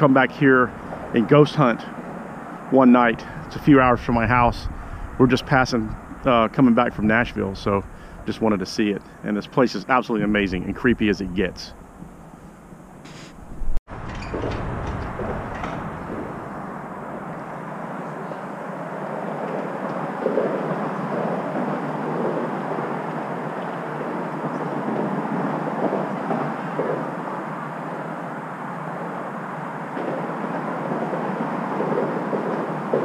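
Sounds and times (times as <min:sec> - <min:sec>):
distant traffic: 0:00.0 - 0:33.0.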